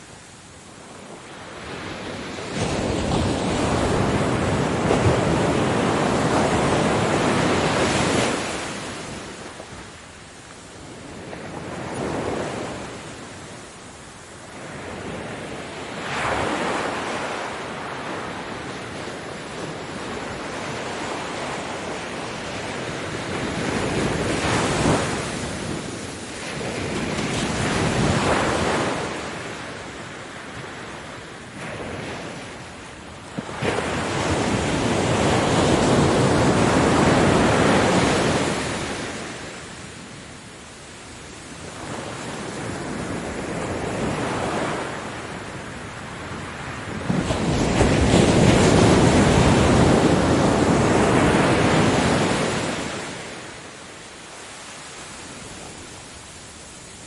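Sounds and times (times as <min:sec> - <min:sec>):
ocean waves breaking: 0:00.0 - 0:57.0
wind noise on microphone: 0:00.0 - 0:57.0.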